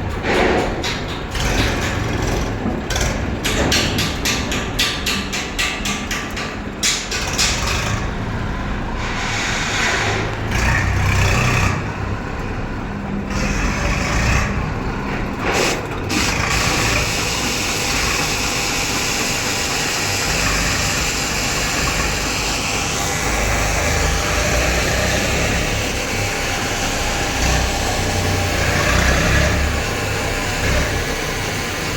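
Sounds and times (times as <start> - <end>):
diesel engines running: 0.0 - 4.8, 6.2 - 31.9.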